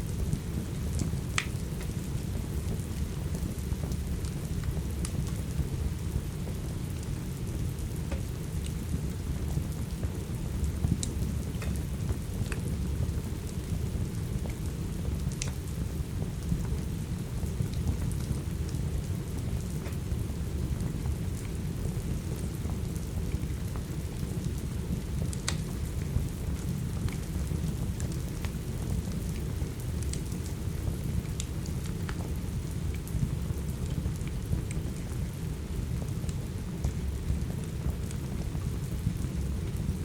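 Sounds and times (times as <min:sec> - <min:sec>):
low continuous rumble: 0:00.0 - 0:40.0
steady rain: 0:00.0 - 0:40.0
wood fire crackling: 0:00.0 - 0:40.0.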